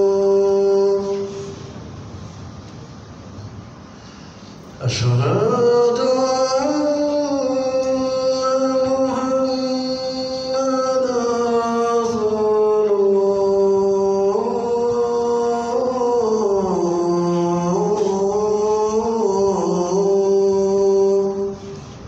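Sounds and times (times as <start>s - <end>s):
man chanting call to prayer: 0.0s - 1.6s, 4.8s - 21.7s.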